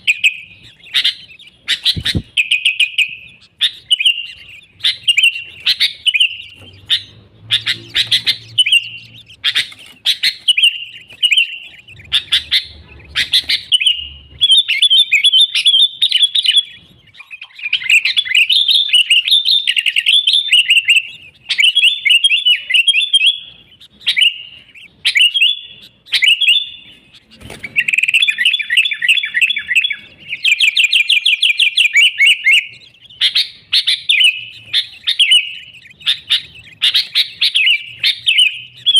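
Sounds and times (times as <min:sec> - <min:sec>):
bird chirping and chattering: 0:00.0 - 0:38.9.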